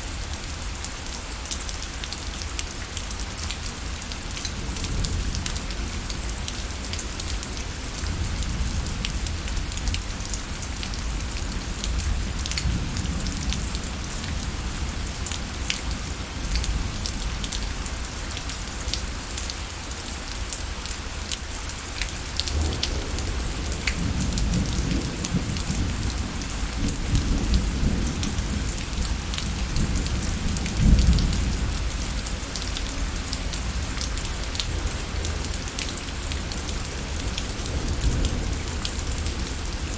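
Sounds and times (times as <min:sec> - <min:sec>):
rain falling: 0:00.0 - 0:39.9
raindrops ticking on surface: 0:00.2 - 0:39.9.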